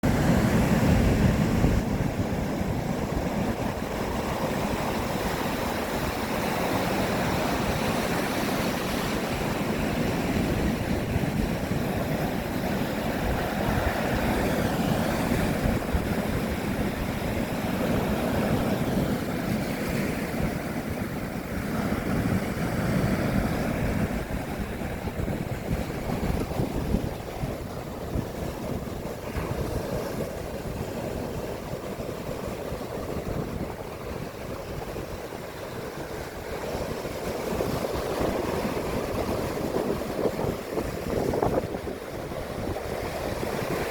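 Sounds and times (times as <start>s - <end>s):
sea waves washing: 0.0s - 43.9s
wind buffeting microphone: 0.0s - 43.9s.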